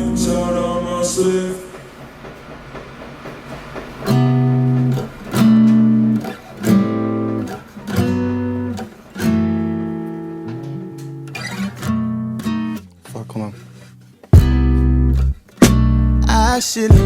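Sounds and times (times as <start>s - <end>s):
guitar strumming slow chords: 0.0s - 17.0s.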